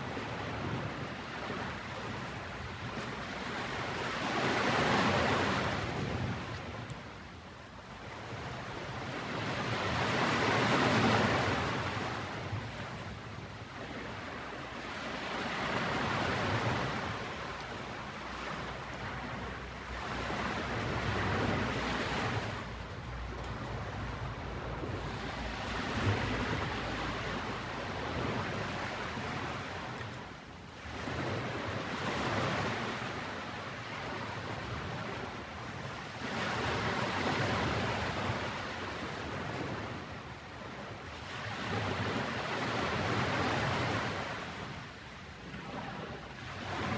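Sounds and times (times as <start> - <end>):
ocean waves washing onto beach: 0.0 - 46.9.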